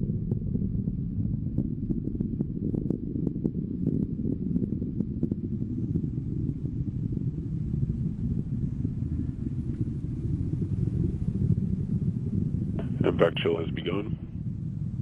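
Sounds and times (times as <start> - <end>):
faint crackles: 0.0 - 15.0
rocket engine rumble: 0.0 - 15.0.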